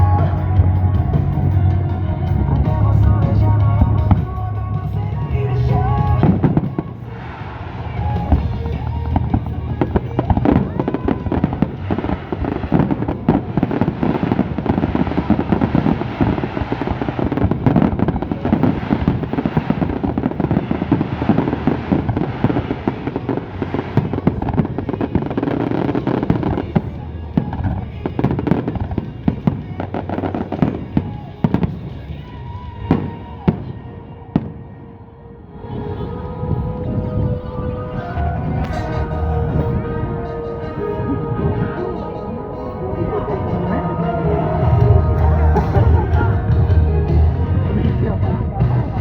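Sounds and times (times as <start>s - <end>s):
fireworks bangs and crackling: 0.0s - 35.0s, 35.6s - 49.0s
music: 0.0s - 49.0s.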